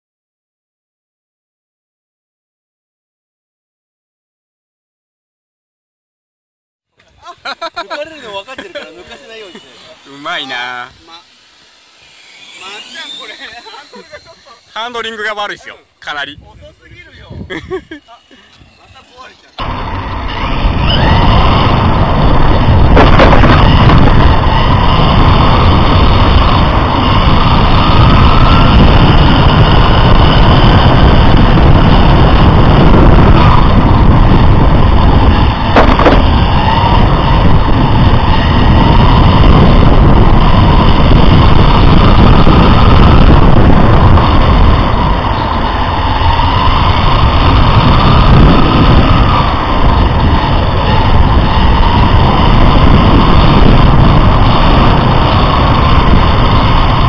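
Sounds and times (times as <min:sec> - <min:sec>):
road and wind noise: 0:06.9 - 0:57.0
electric motor whine: 0:07.0 - 0:57.0.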